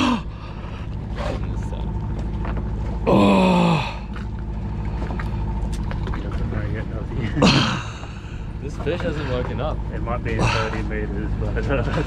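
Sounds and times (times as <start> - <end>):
boat machinery hum: 0.0 - 12.0.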